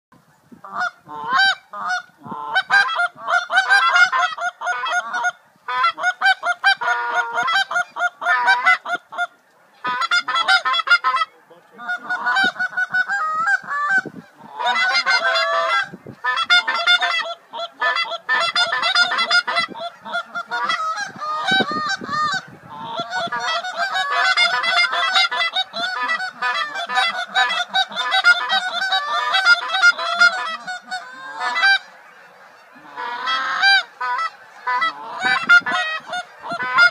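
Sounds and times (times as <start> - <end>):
flock of geese honking: 0.2 - 36.9.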